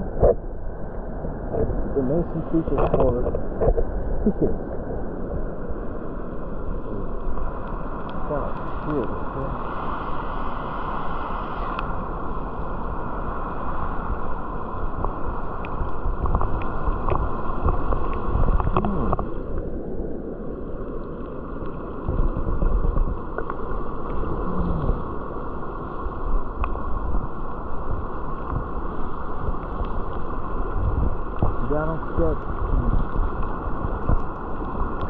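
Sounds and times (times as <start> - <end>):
wind rumbling on microphone: 0.0 - 35.0.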